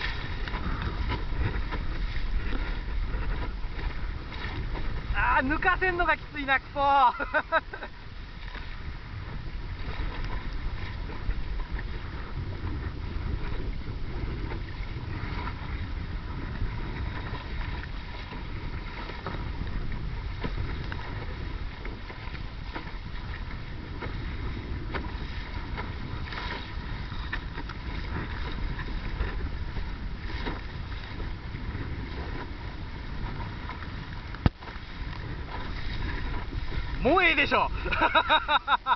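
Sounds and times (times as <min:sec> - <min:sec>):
short water splashes: 0:00.0 - 0:38.9
water rushing along boat hull: 0:00.0 - 0:38.9
wind buffeting microphone: 0:00.0 - 0:38.9.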